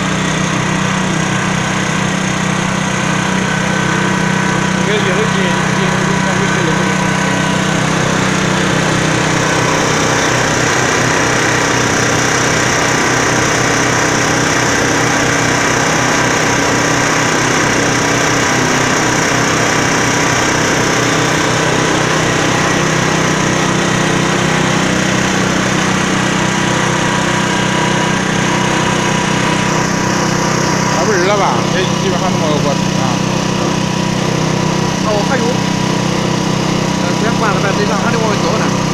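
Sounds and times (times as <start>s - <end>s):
concrete mixer diesel engine running: 0.0s - 38.9s.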